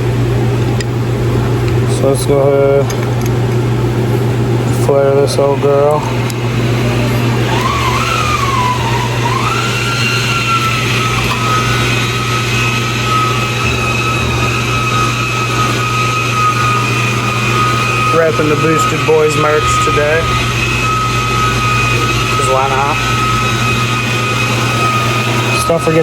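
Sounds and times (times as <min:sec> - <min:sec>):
mechanical drone with whine: 0:00.0 - 0:26.0.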